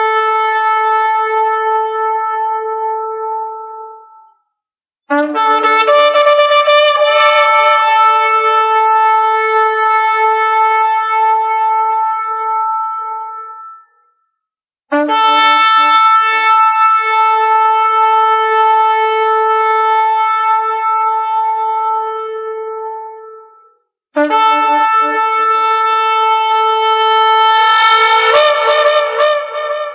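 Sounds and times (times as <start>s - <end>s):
shofar blasts: 0.0s - 4.2s, 5.1s - 13.9s, 14.9s - 23.6s, 24.2s - 29.9s.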